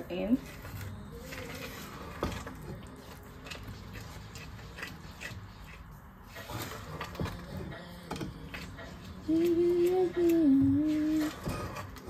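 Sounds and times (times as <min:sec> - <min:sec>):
wooden spoon stirring in saucepan: 0:00.0 - 0:12.0.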